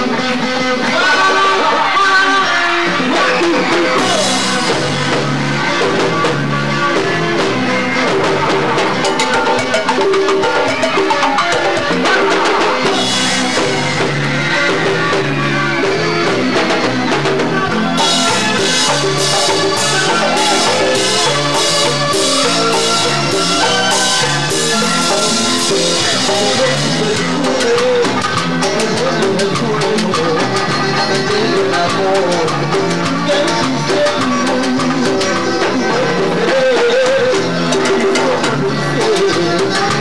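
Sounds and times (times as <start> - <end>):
band playing with drums and bass: 0.0 - 40.0.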